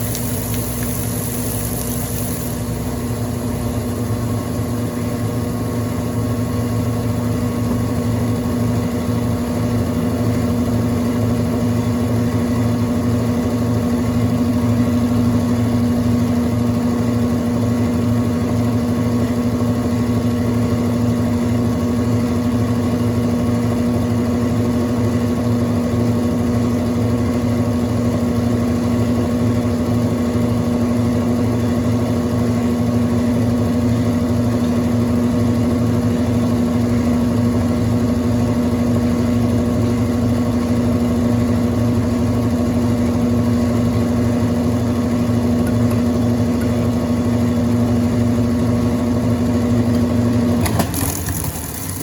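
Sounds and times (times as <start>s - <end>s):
washing machine running: 0.0s - 52.0s.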